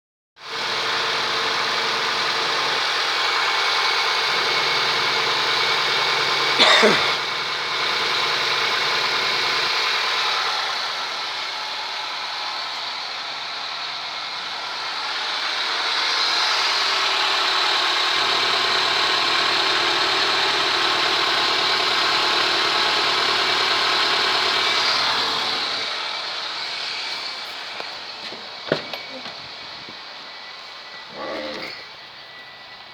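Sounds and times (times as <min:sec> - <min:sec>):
car engine idling: 0:00.5 - 0:31.2.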